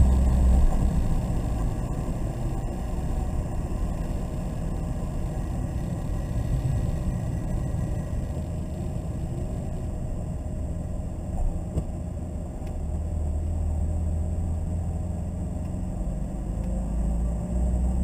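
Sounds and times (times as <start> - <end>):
car engine and road noise drone: 0.0 - 18.0.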